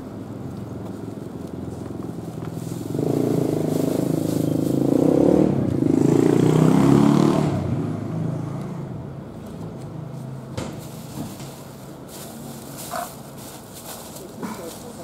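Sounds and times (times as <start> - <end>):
motor vehicle passing by: 0.3 - 13.6.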